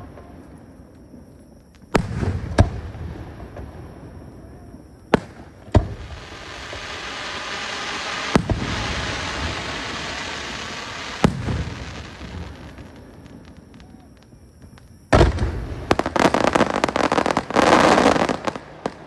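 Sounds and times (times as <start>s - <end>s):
fireworks bangs: 0.0s - 19.0s
fireworks hiss: 0.0s - 19.0s.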